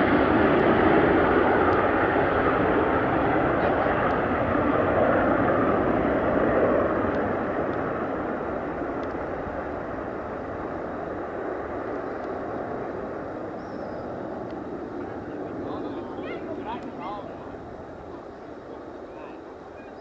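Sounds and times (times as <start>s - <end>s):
military jet engine rush: 0.0s - 20.0s.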